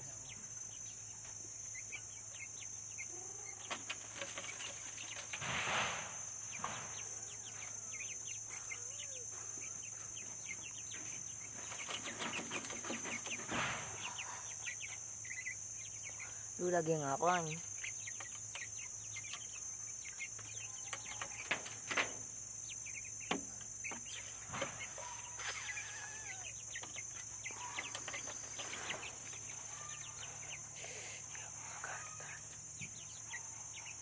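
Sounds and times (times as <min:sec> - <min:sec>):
chickens clucking: 0:00.0 - 0:34.0
small birds chirping: 0:00.0 - 0:34.0
noisy flurry of chickens: 0:01.2 - 0:16.5, 0:17.4 - 0:30.8.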